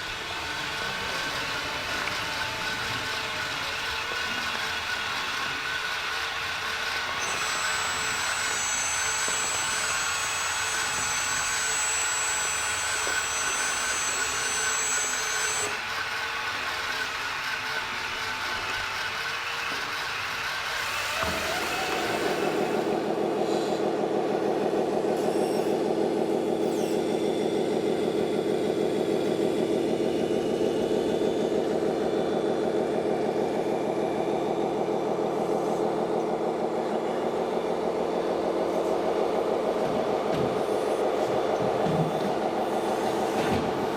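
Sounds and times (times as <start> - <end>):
model truck motor whine: 0.0 - 43.9
steady engine-like drone: 0.0 - 43.9.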